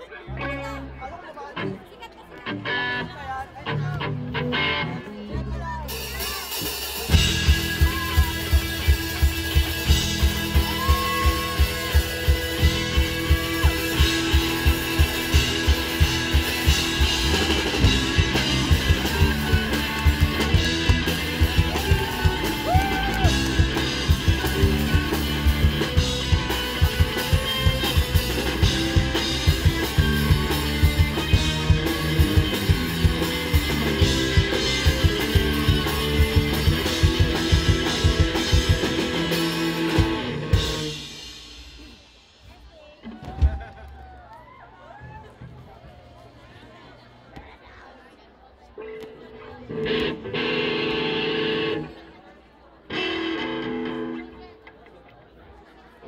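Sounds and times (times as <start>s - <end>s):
electric guitars: 0.0s - 42.2s, 48.8s - 52.2s, 52.9s - 55.0s.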